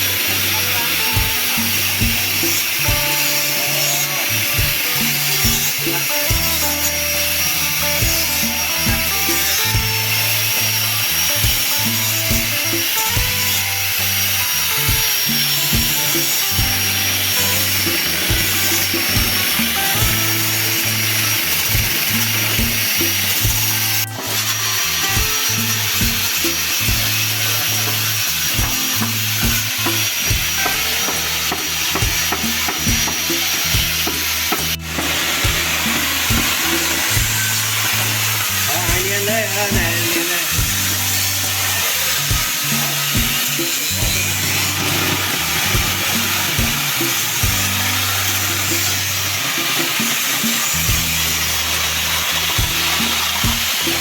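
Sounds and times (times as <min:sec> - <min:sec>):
angle grinder grinding wood: 0:00.0 - 0:54.0
background music: 0:00.0 - 0:54.0.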